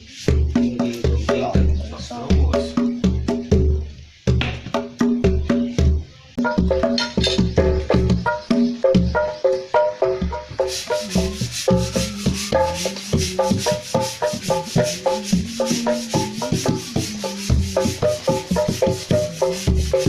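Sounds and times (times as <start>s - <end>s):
hand drum strokes: 0.0s - 20.0s
shaker rasp: 0.0s - 20.0s
low pitch-bending drum: 0.2s - 20.0s.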